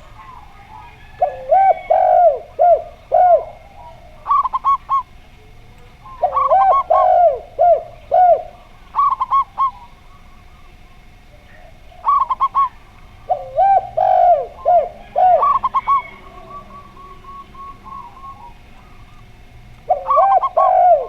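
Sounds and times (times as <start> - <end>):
doves cooing: 0.0 - 21.0.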